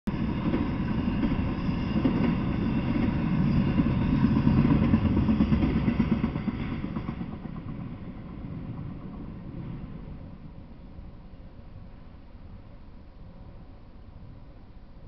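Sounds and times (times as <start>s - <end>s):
freight train rumbling past: 0.1s - 15.0s.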